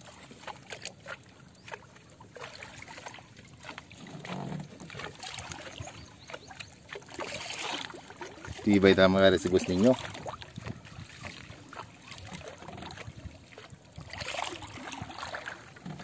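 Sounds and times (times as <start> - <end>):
water lapping around boats: 0.0 - 16.0.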